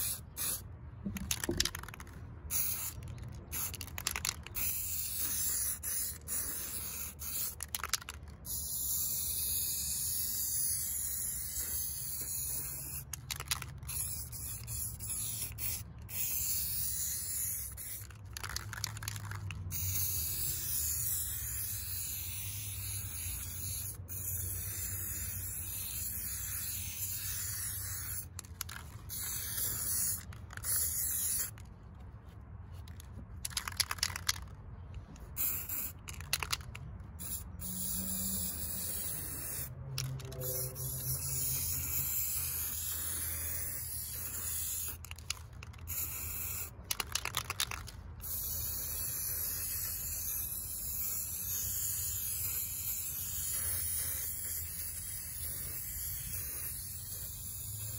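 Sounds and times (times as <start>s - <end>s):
aerosol spray can hissing: 0.0s - 0.6s, 1.2s - 31.6s, 35.4s - 36.6s, 37.2s - 57.9s.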